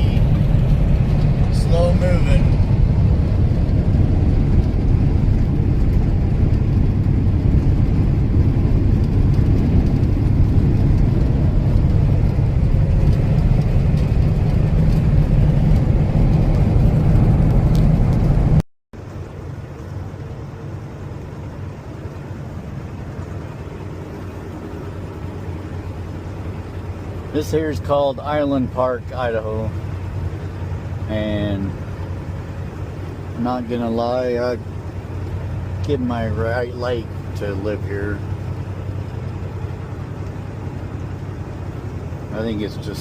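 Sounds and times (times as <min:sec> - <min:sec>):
truck engine and road noise: 0:00.0 - 0:43.0.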